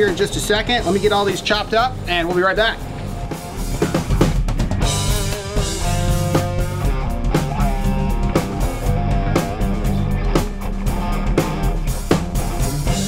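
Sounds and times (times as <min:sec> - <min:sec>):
bass guitar: 0:00.0 - 0:13.0
drum kit beat: 0:00.0 - 0:13.0
guitars: 0:00.0 - 0:13.0.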